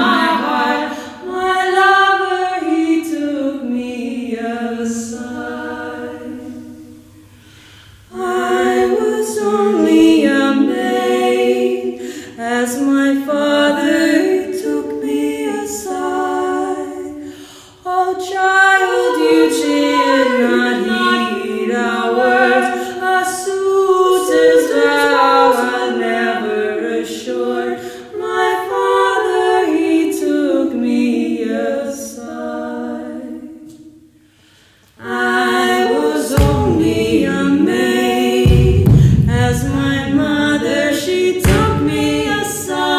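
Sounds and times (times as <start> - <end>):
women singing a cappella: 0.0 - 42.9.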